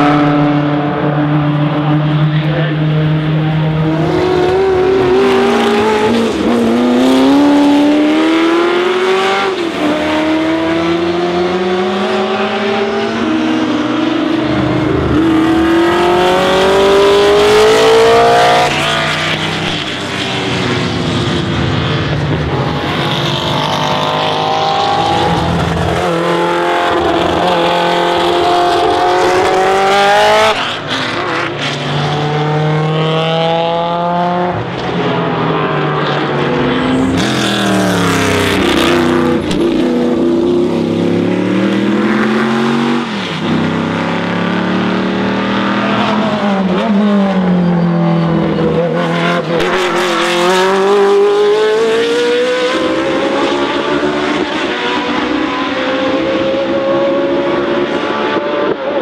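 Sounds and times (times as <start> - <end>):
racing car engine accelerating: 0.0 - 59.0.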